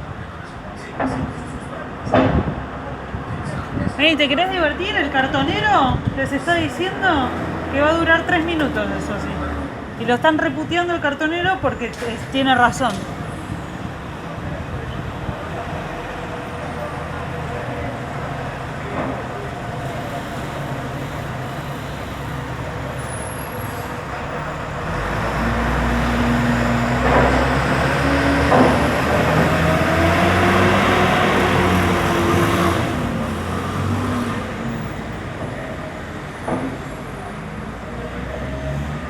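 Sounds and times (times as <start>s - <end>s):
heavy vehicle engine rumble: 0.0s - 39.0s
street traffic: 0.0s - 39.0s.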